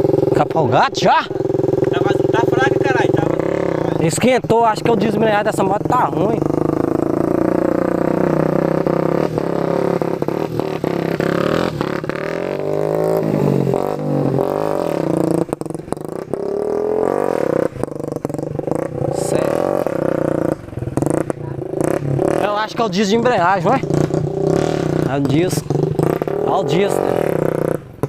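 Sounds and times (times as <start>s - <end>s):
small motorcycle engine revving: 0.0s - 28.0s.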